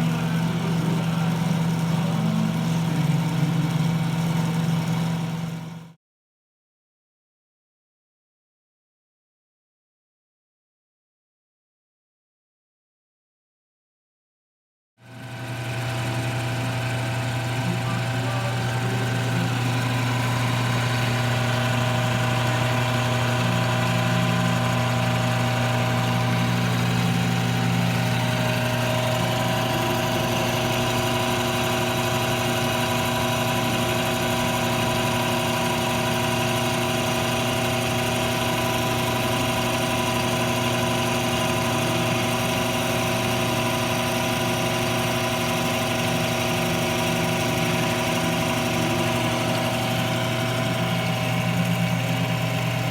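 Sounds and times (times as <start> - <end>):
metal lathe motor hum: 0.0 - 5.9, 15.0 - 52.9.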